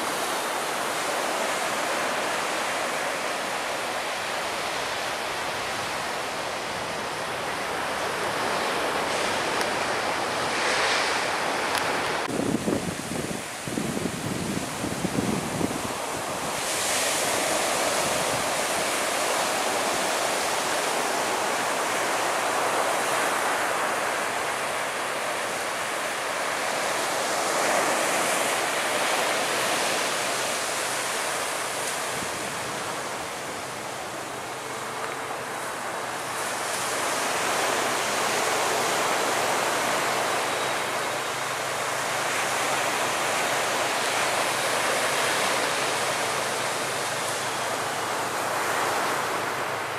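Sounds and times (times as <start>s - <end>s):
ocean surf washing ashore: 0.0s - 49.9s.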